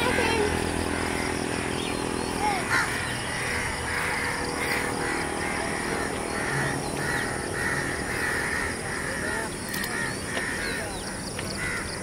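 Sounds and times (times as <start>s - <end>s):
birds calling: 0.0s - 12.0s
outdoor background noise: 0.0s - 12.0s.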